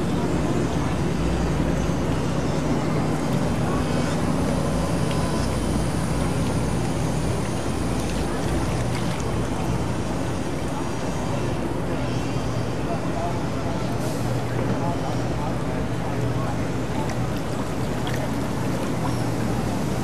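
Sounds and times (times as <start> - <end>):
low engine hum: 0.0 - 20.0
outdoor noise: 0.0 - 20.0.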